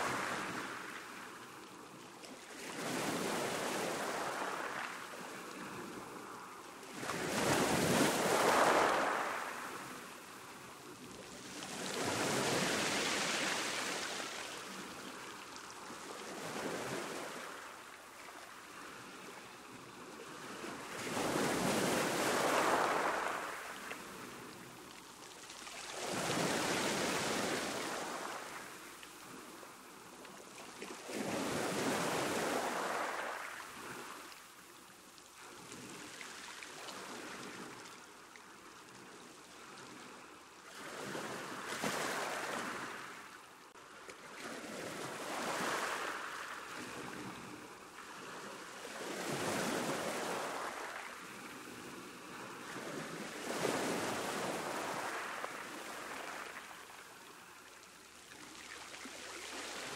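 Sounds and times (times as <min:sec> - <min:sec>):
ocean waves breaking on a beach: 0:00.0 - 0:59.9.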